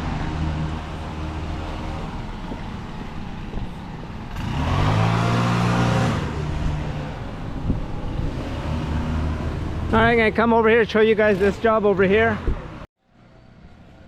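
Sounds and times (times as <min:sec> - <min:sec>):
low engine hum: 0:00.0 - 0:14.0
vehicle passing by: 0:00.0 - 0:14.0.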